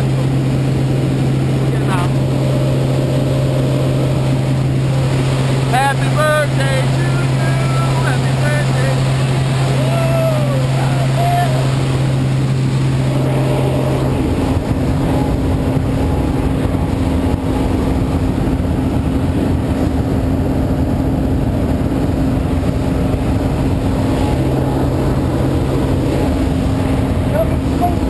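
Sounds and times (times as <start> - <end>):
light aircraft engine droning: 0.0 - 28.0.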